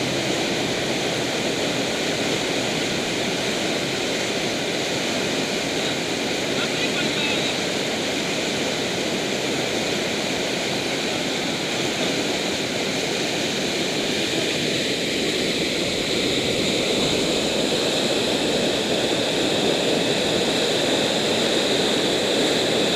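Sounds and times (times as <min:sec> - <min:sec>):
river rapids roaring: 0:00.0 - 0:22.9.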